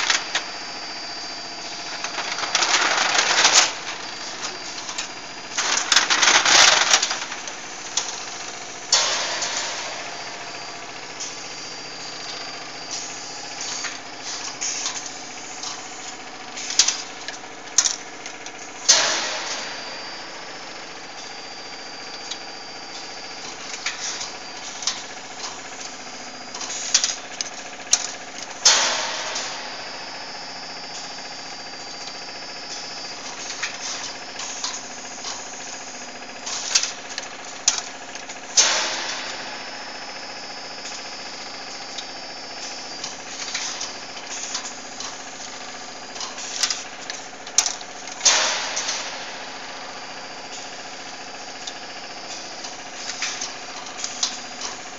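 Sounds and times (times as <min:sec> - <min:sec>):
machine hum and high whine: 0:00.0 - 0:54.9.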